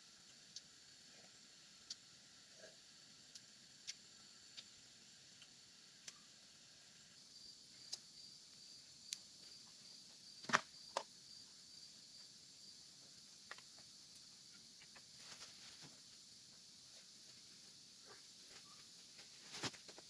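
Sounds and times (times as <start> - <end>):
hiss of insects: 0.0 - 20.0
insect chirping: 0.0 - 20.0.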